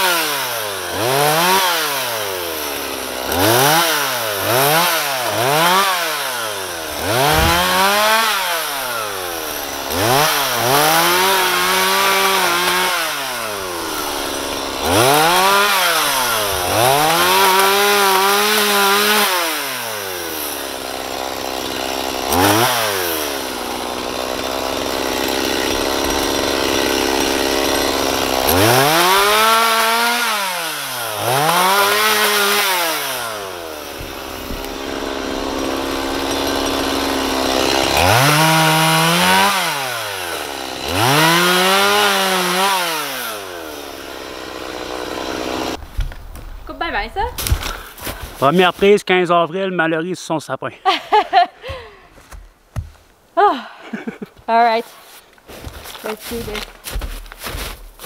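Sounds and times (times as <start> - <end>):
chainsaw revving and idling: 0.0 - 45.8, 50.9 - 52.0, 53.6 - 58.0.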